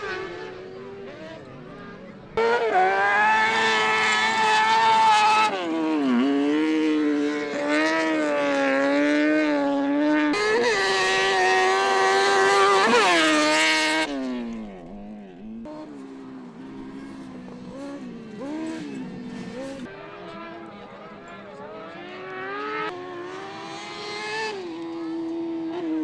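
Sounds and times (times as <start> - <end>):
high-revving racing engine: 0.0 - 26.0.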